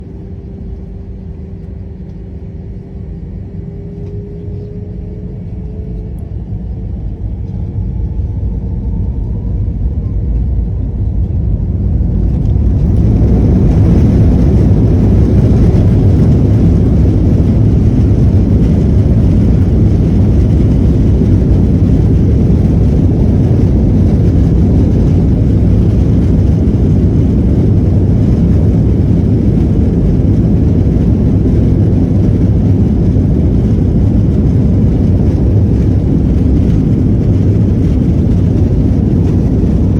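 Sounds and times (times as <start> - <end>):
jet engines spooling up: 3.8 - 39.9.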